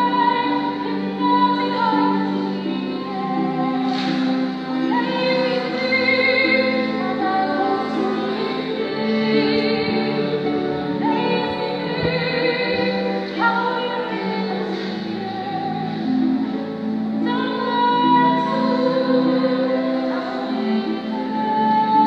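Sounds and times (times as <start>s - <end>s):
woman singing slow song: 0.0s - 16.6s, 17.2s - 22.0s
cello: 0.0s - 22.0s
harp: 0.0s - 22.0s.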